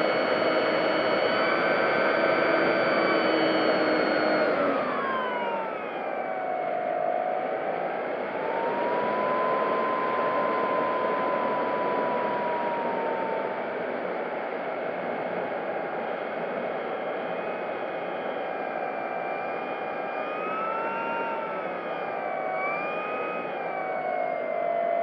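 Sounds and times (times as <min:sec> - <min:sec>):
electric motor and propeller whining: 0:00.0 - 0:14.5, 0:16.9 - 0:25.0.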